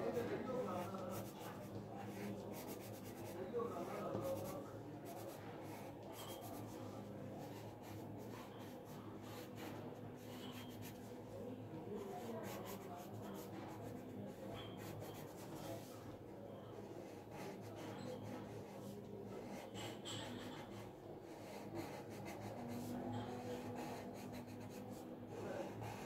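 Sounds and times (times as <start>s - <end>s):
pencil scratching on paper: 0.7s - 11.0s, 12.0s - 15.9s, 16.9s - 26.0s.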